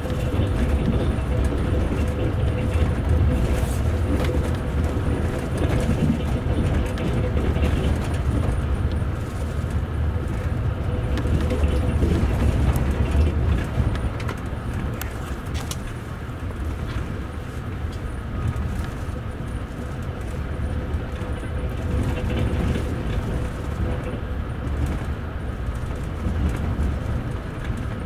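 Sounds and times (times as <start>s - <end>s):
train rumble inside coach: 0.0s - 28.0s.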